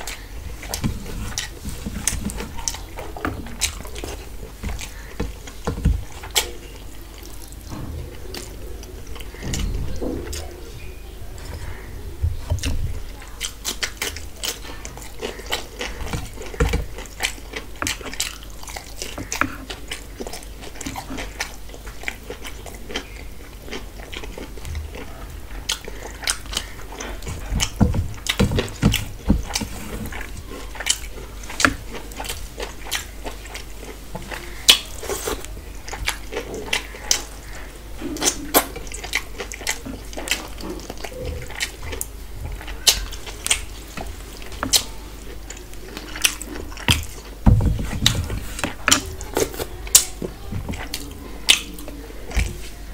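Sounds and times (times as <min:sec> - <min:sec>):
chewing and lip-smacking: 0:00.0 - 0:52.8.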